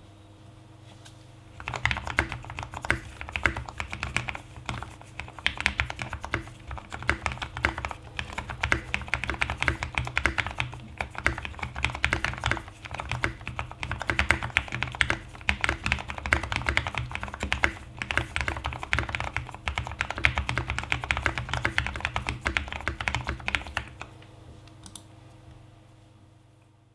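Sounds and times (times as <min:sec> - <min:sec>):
fast typing on mechanical keyboard: 0:01.6 - 0:24.2.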